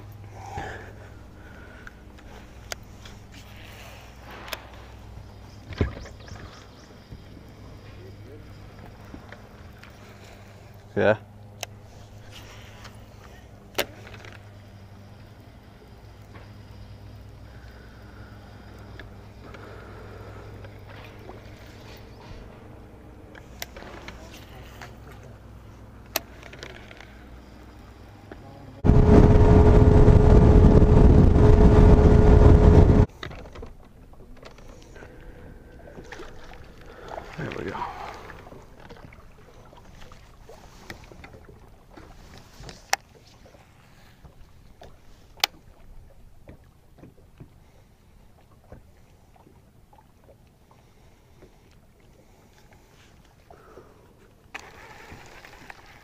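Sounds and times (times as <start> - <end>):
low wind: 0.0 - 56.0
outboard motor boat at speed: 0.0 - 56.0
water noise: 0.0 - 56.0.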